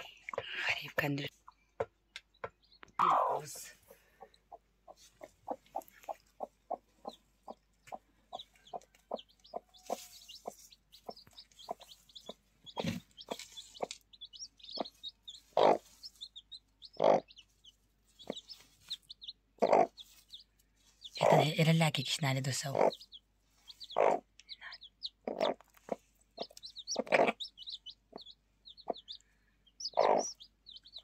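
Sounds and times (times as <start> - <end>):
chicks peeping: 1.4 - 31.0
hen clucking: 2.3 - 31.0.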